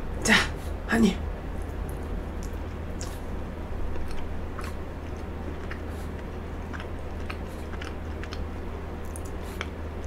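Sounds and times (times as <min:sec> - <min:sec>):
low steady hum: 0:00.0 - 0:10.0
chewing frozen cake: 0:01.6 - 0:10.0.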